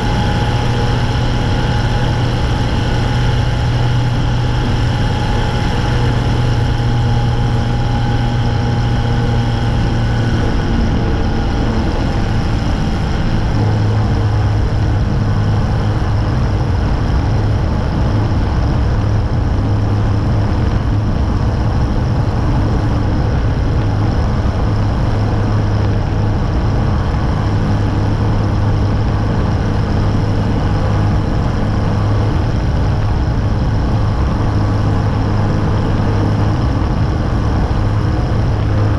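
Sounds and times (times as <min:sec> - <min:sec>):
light aircraft engine and propeller: 0:00.0 - 0:38.9.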